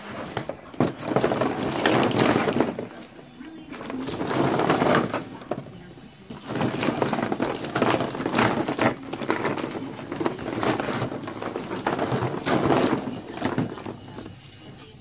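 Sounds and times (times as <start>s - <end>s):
plastic balls clattering: 0.0s - 15.0s.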